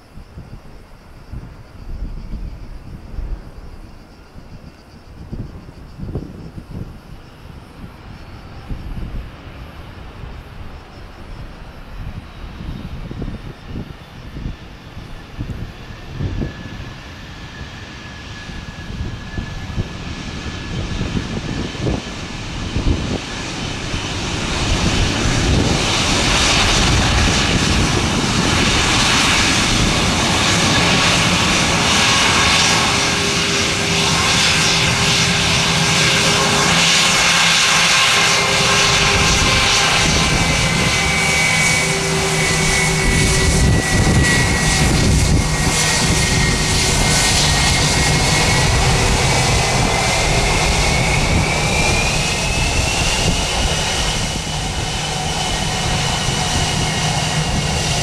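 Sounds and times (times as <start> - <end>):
airliner engines roaring: 0.0 - 58.0.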